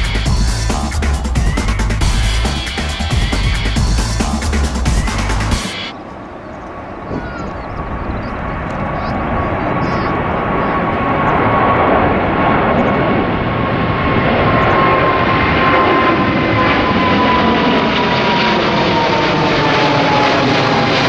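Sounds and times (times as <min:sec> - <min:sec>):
jet airliner roaring overhead: 0:00.0 - 0:21.0.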